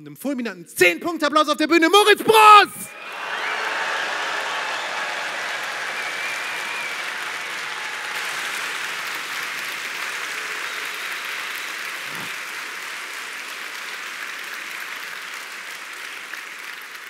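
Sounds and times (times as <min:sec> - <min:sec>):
audience applauding: 0:02.9 - 0:17.0.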